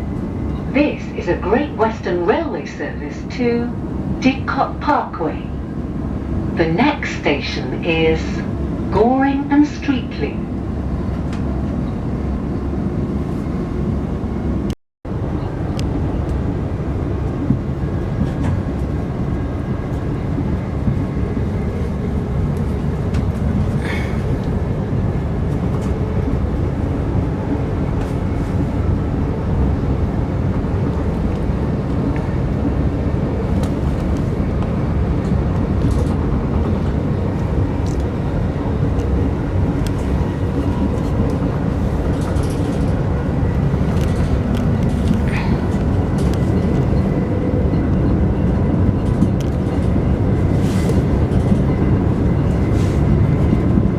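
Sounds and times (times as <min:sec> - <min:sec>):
train interior rumble: 0:00.0 - 0:53.9.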